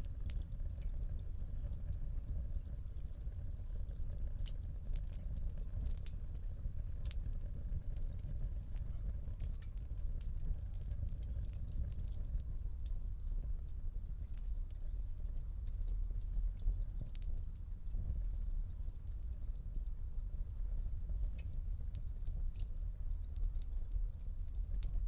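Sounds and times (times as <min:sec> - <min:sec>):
low rumble of burning: 0:00.0 - 0:25.0
wood fire crackling: 0:00.0 - 0:25.0.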